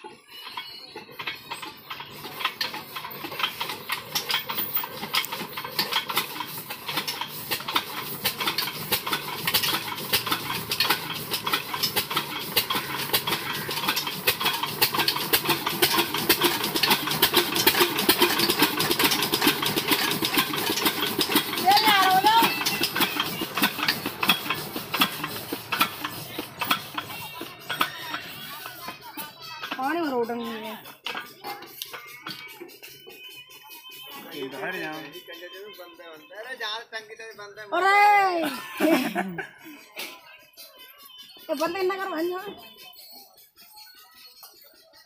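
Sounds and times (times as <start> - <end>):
diesel engine chugging: 0.0 - 45.0.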